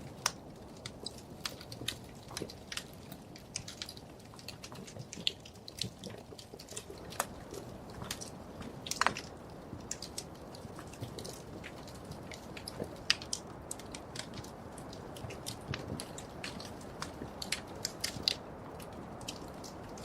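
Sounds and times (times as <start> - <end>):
wood fire popping and snapping: 0.0 - 20.0.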